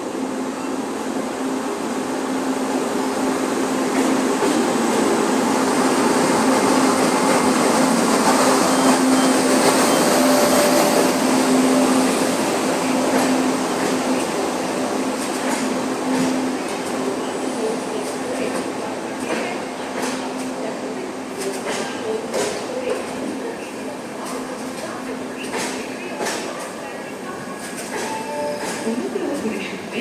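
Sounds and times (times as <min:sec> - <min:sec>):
train rolling rumble: 0:00.0 - 0:30.0.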